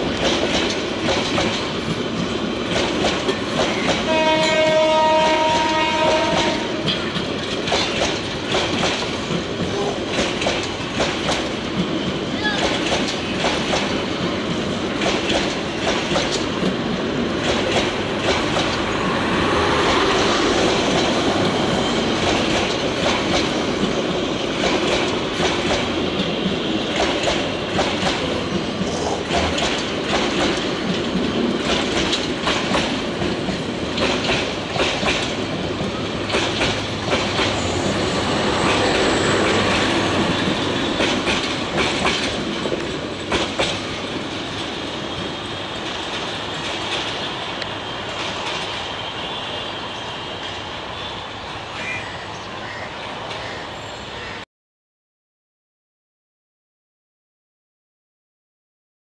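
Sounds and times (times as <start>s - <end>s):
wheels clacking over rail joints: 0.0s - 19.0s, 19.6s - 49.4s
train rumbling past: 0.0s - 54.4s.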